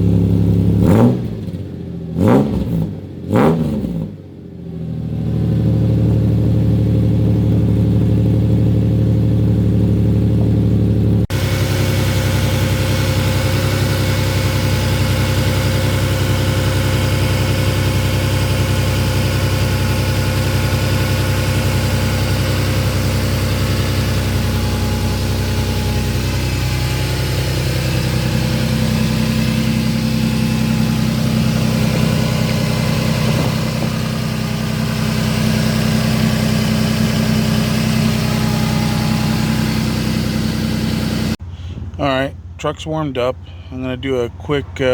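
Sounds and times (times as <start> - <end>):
engine idling: 0.0 - 1.0, 4.2 - 44.9.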